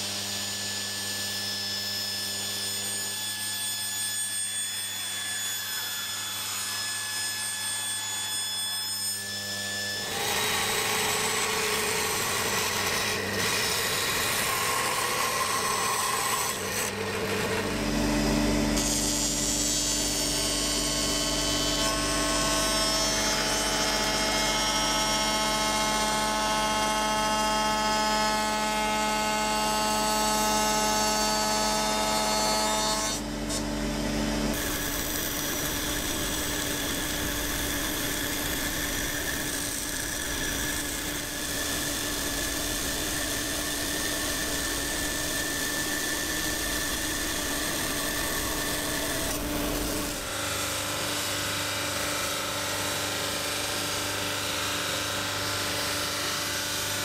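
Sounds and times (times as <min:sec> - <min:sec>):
router whining: 0:00.0 - 0:57.0
bandsaw running: 0:09.1 - 0:32.5, 0:33.2 - 0:57.0.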